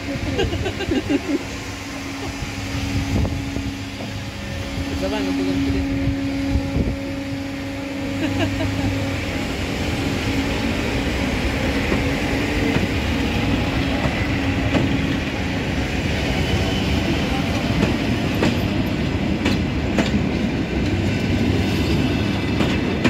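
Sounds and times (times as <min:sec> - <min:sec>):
train rolling past: 0:00.0 - 0:23.0.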